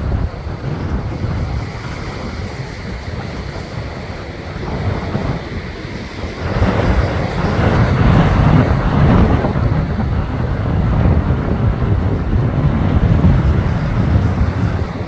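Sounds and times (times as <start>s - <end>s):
strong wind buffeting microphone: 0.0s - 15.0s
waves breaking on rocks: 0.0s - 15.0s.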